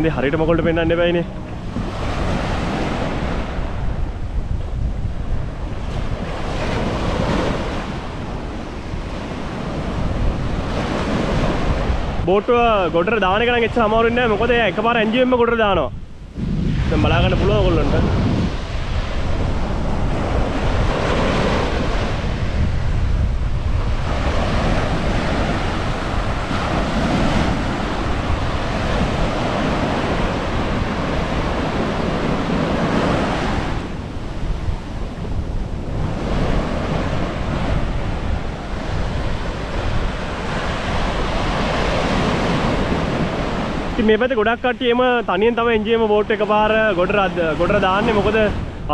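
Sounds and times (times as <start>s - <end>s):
sea waves breaking on beach: 0.0s - 48.9s
wind buffeting microphone: 0.0s - 48.9s.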